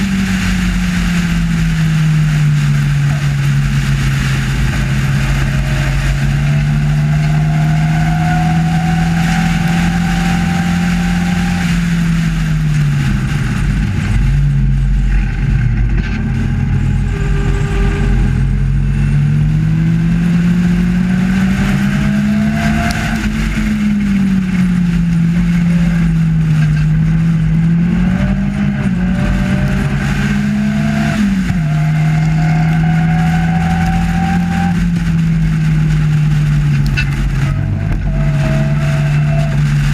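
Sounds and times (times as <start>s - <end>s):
racing car engine revving: 0.0s - 39.9s
wind rush: 0.0s - 39.9s.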